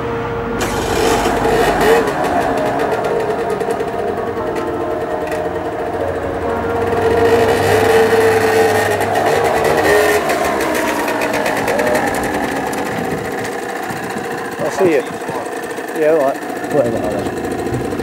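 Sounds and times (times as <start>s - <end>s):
moped engine buzzing: 0.0s - 18.0s.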